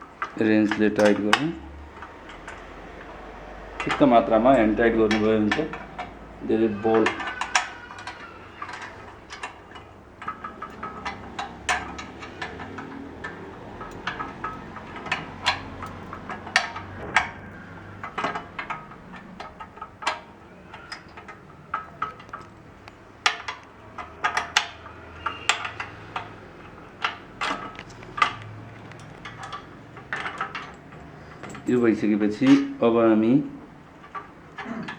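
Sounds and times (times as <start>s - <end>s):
wrench clinking on metal: 0.2s - 34.9s.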